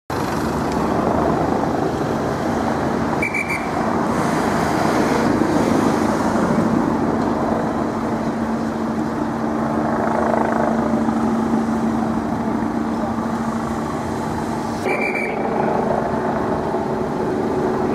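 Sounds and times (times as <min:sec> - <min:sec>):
motorcycle engines running: 0:00.1 - 0:17.9
road traffic noise: 0:00.1 - 0:17.9.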